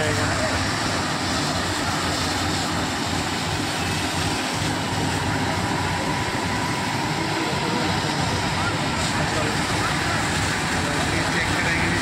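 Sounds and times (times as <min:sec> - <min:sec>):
fire engine pumps running: 0:00.0 - 0:12.0
hose jets hissing: 0:00.0 - 0:12.0.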